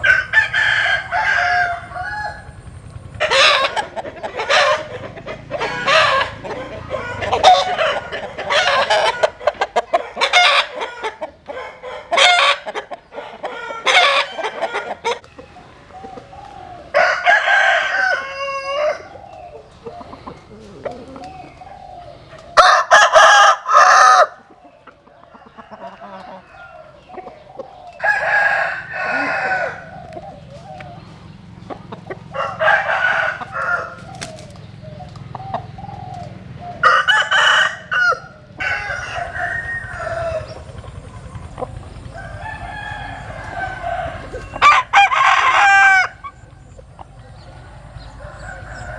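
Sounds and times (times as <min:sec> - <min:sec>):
chickens clucking: 0:00.0 - 0:48.9
roosters crowing: 0:00.0 - 0:48.9.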